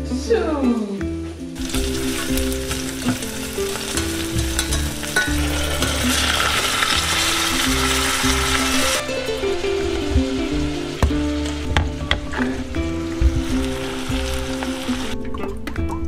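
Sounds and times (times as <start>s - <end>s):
onions sizzling in oil: 1.5s - 15.2s.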